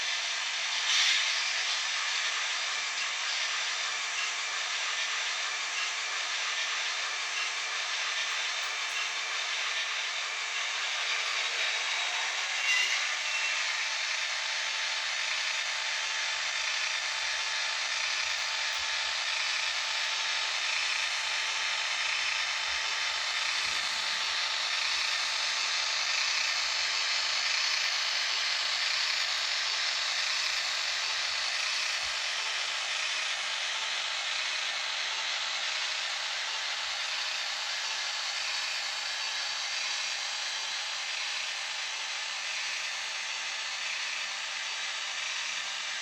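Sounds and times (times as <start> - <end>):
model train whirring on track: 0.0 - 46.0.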